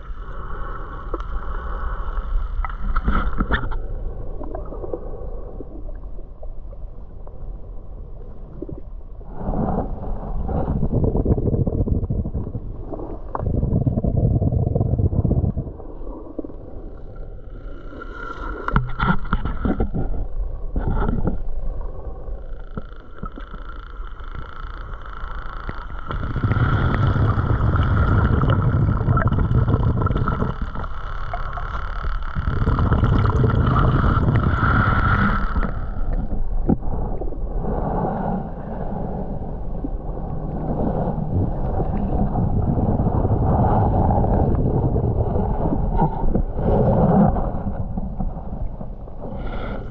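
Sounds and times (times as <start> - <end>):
underwater rumble and swish: 0.0 - 49.9.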